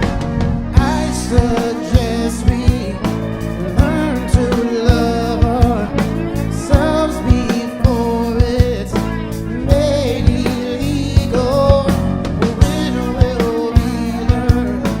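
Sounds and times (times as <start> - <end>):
person singing: 0.0 - 15.0
rock band playing live: 0.0 - 15.0.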